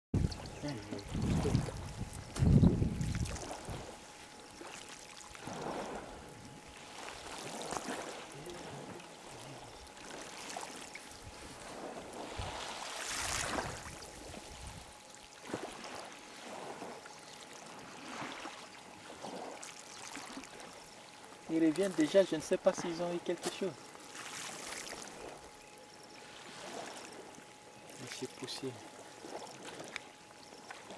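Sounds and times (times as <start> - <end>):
lake water lapping: 0.2 - 30.9.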